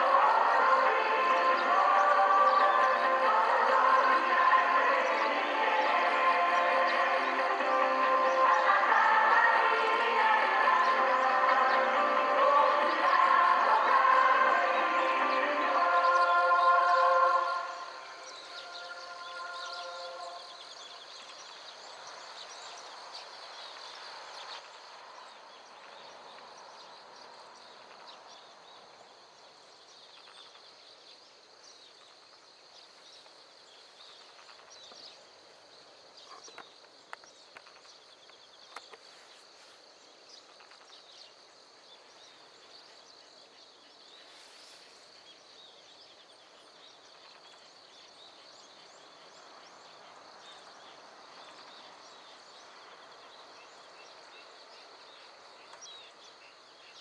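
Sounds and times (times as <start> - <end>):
bird calls: 0.0 - 29.1, 29.8 - 57.0
insects chirring: 0.0 - 57.0.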